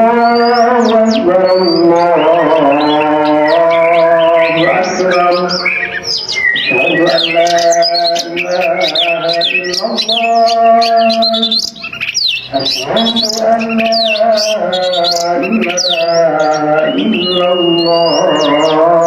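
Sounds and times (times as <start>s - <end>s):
bird singing whistles and chirps: 0.0s - 19.0s
man chanting call to prayer: 0.0s - 19.0s.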